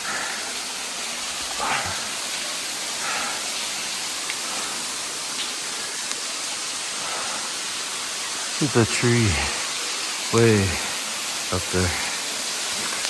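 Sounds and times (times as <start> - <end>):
waterfall splashing onto rocks: 0.0 - 13.0.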